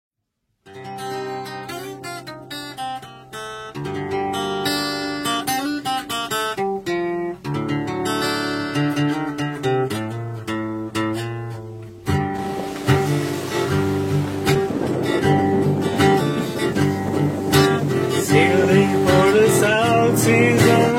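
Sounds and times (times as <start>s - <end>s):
acoustic guitar music: 0.6s - 20.9s.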